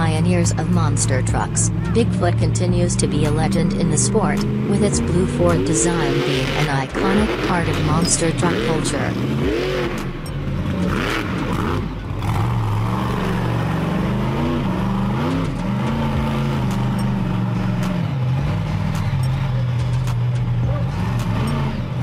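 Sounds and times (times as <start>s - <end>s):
monster truck engine running: 0.0s - 22.0s.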